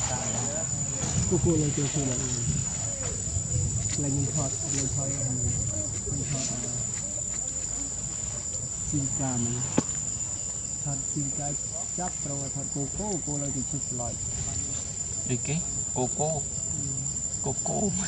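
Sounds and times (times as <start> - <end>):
low voices talking: 0.0 - 9.8, 10.8 - 14.2, 15.2 - 18.0
insects droning: 0.0 - 18.0.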